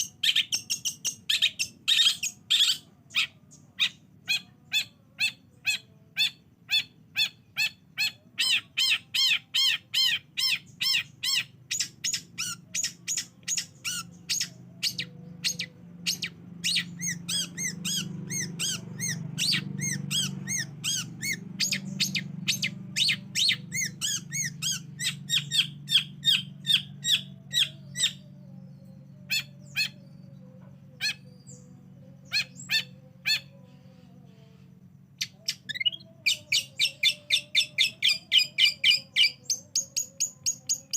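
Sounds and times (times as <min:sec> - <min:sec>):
bird chattering calls: 0:00.0 - 0:30.3, 0:30.9 - 0:40.9
faint low hum: 0:00.0 - 0:40.9.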